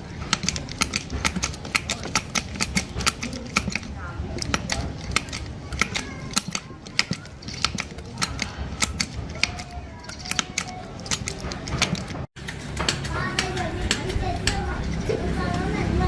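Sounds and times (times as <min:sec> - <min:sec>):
hard objects clicking and tapping: 0:00.0 - 0:15.8
faint voices: 0:00.0 - 0:16.0.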